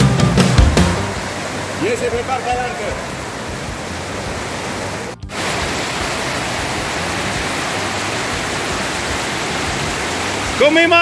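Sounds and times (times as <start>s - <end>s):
stream rushing over boulders: 0.2s - 11.0s.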